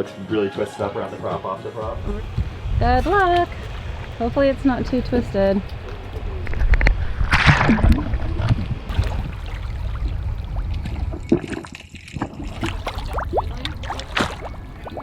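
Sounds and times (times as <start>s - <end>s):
water sloshing around a boat: 1.9s - 15.0s.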